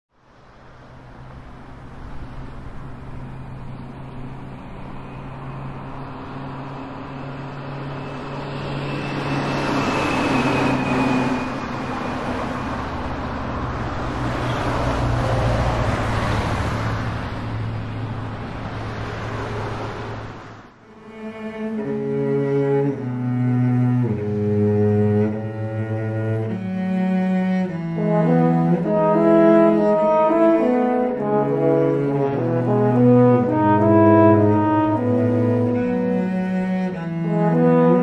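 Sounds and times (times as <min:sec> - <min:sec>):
passing cars and trucks: 0:00.1 - 0:38.0
low engine hum: 0:00.2 - 0:38.0.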